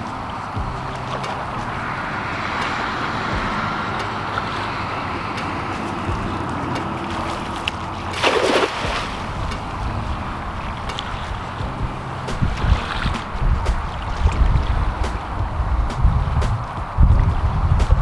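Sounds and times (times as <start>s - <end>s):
gently lapping water: 0.0s - 17.6s
wind noise on microphone: 0.0s - 18.0s
cast net splashing on water: 0.3s - 16.0s.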